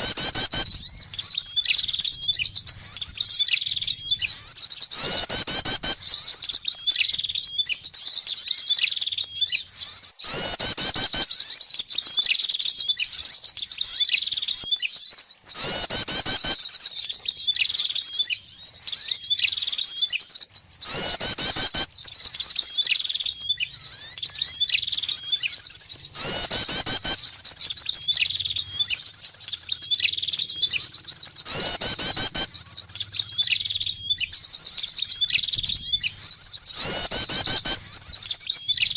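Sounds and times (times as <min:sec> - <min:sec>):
harsh bird call: 0:00.0 - 0:38.9
high-pitched bird chirping: 0:00.0 - 0:38.9.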